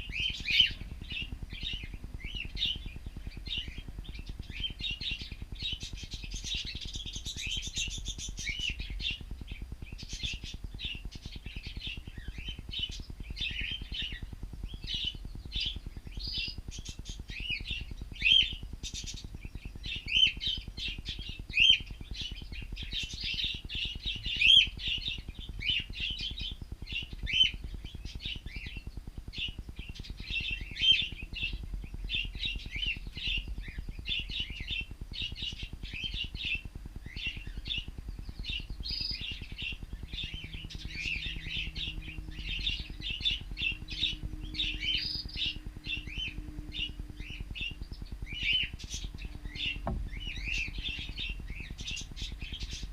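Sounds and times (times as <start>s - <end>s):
cockatiels chirping and chattering: 0.0s - 52.9s
loud bird calls: 0.0s - 52.9s.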